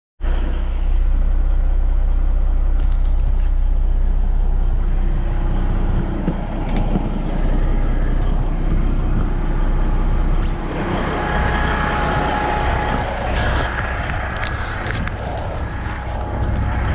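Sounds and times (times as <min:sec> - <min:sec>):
heavy truck engine drone: 0:00.2 - 0:16.9
road noise: 0:00.2 - 0:16.9.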